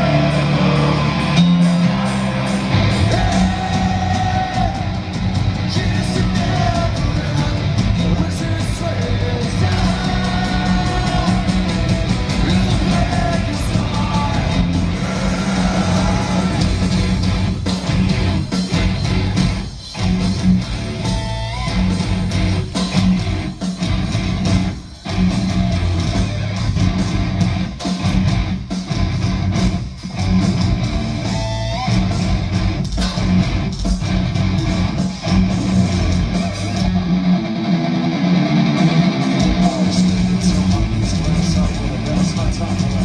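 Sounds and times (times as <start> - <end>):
heavy metal band playing live: 0.0 - 43.0.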